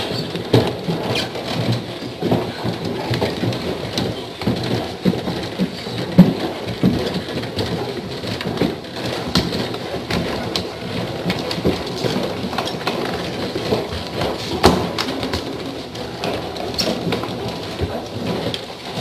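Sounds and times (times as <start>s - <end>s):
footsteps on wooden stairs: 0.0s - 19.0s.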